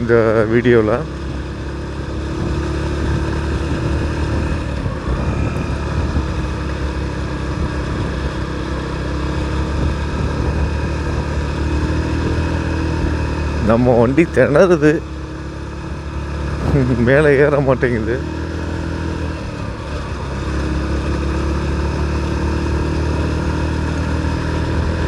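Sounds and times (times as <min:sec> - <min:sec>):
motorcycle engine straining uphill: 0:00.0 - 0:25.0.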